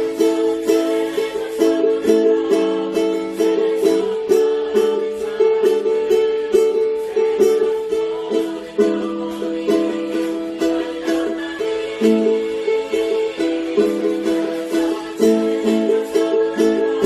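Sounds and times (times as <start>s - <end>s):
ukulele playing a tune: 0.0s - 17.0s.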